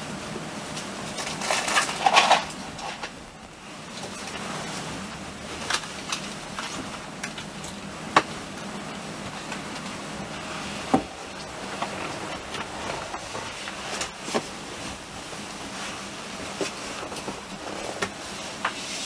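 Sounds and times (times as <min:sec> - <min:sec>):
train running noise inside carriage: 0:00.0 - 0:19.0.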